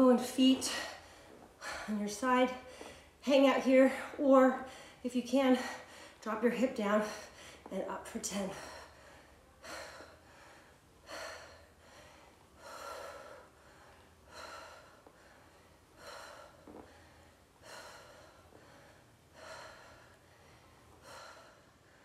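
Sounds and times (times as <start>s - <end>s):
woman breathing heavily: 0.0s - 22.0s.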